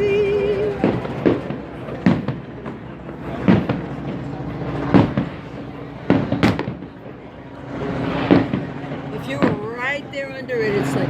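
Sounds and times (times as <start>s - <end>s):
fireworks bursting: 0.0s - 7.1s, 7.8s - 10.0s
murmur of voices: 0.0s - 11.0s.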